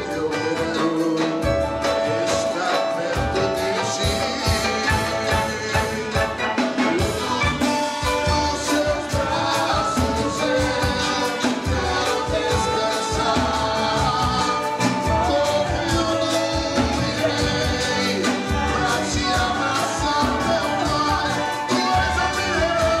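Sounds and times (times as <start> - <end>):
drums and percussion: 0.0 - 23.0
gospel band music: 0.0 - 23.0
person singing: 0.0 - 23.0.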